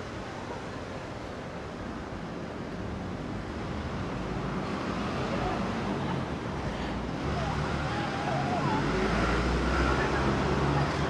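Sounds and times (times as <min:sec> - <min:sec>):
traffic hum: 0:00.0 - 0:11.0.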